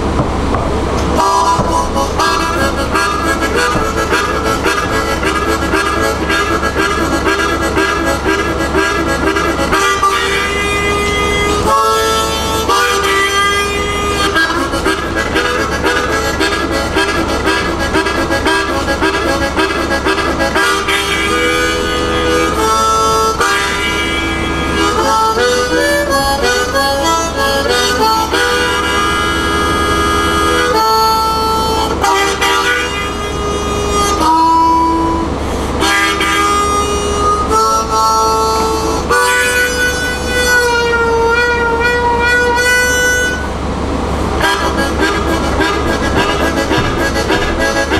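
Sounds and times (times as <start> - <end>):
harmonica blues tune: 0.0 - 47.9.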